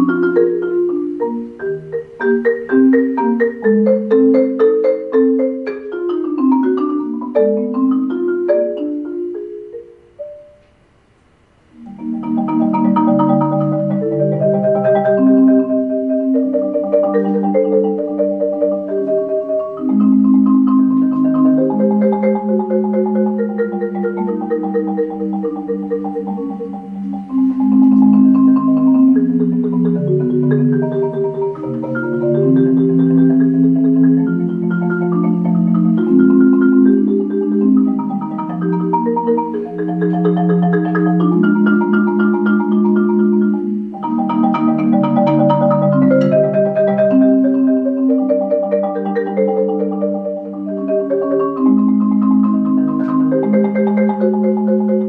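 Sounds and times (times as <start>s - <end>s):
marimba playing slow melody: 0.0s - 10.9s, 11.7s - 55.0s.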